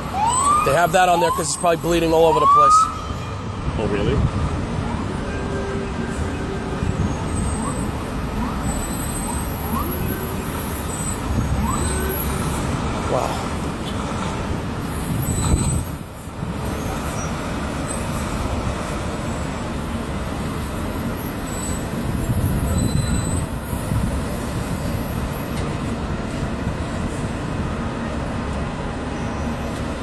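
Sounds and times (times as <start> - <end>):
heavy vehicles idling: 0.0 - 30.0
street traffic rumble: 0.0 - 30.0.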